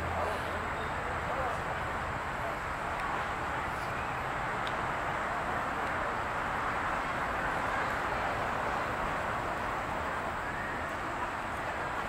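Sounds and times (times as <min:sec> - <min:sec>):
continuous rushing hiss: 0:00.0 - 0:12.0.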